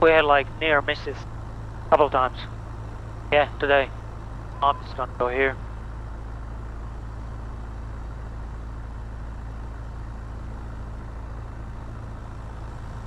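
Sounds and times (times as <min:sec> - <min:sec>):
small plane engine droning: 0:00.0 - 0:13.0.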